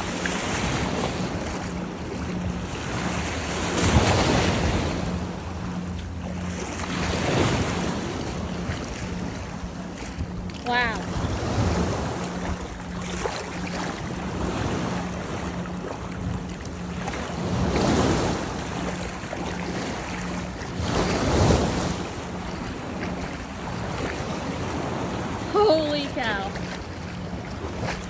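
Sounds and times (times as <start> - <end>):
small surf waves washing: 0.0 - 28.0
wind buffeting microphone: 0.0 - 28.0.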